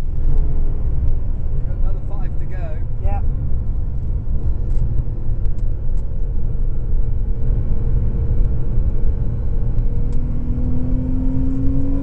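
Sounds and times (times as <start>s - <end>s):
car engine in cabin: 0.0s - 12.0s.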